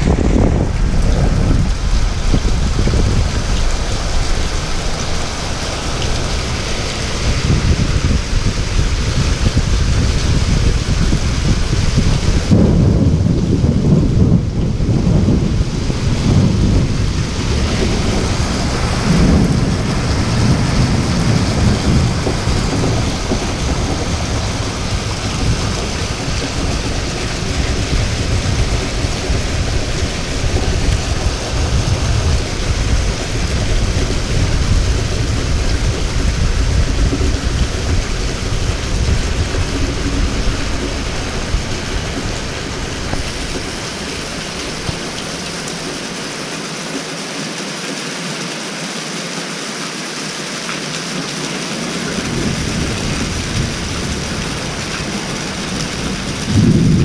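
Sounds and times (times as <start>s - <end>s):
low rumble of thunder: 0.0s - 46.2s, 51.8s - 57.0s
heavy rain pouring: 0.0s - 57.0s.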